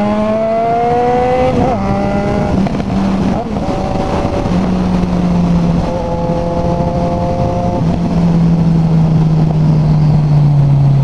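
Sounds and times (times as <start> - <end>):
motorcycle engine through open pipe: 0.0 - 11.0
wind rushing: 0.0 - 11.0.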